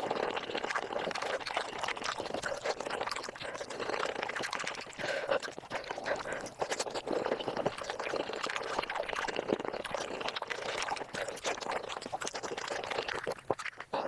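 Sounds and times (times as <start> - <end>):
wet chewing and sucking: 0.0 - 14.0.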